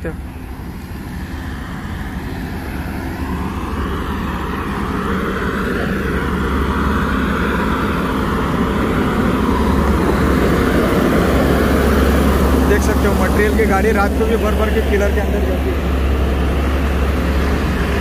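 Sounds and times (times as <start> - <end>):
heavy vehicle engine passing: 0.0 - 18.0.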